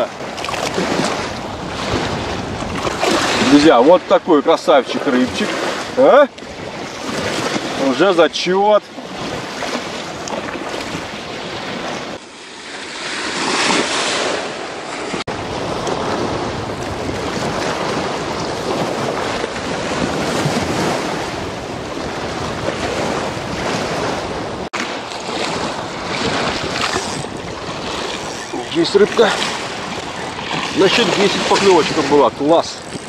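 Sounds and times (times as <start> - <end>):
small waves splashing: 0.0 - 33.0
wind gusting across microphone: 0.0 - 33.0.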